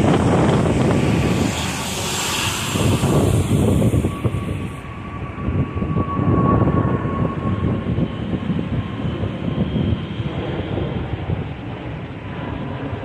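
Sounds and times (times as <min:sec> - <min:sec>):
jet airliner flying overhead: 0:00.0 - 0:13.0.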